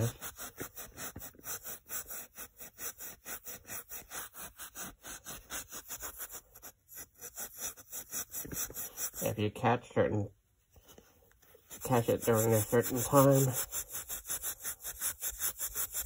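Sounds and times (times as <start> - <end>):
steel wool scrubbing on metal: 0.0 - 9.4, 11.6 - 16.0.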